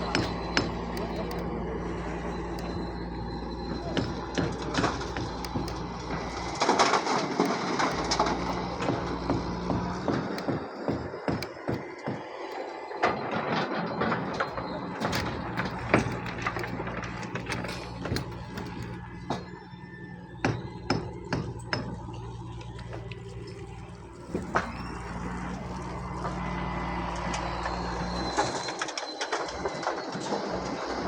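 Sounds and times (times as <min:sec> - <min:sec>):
sharp knocks and clicks: 0:00.0 - 0:01.5, 0:02.4 - 0:30.8
machine humming: 0:00.0 - 0:28.7.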